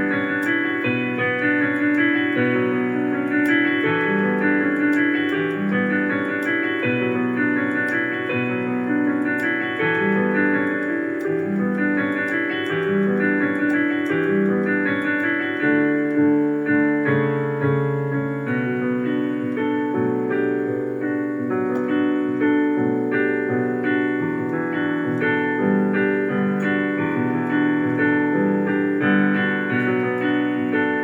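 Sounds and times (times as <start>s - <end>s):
piano keyboard music: 0.0s - 31.0s.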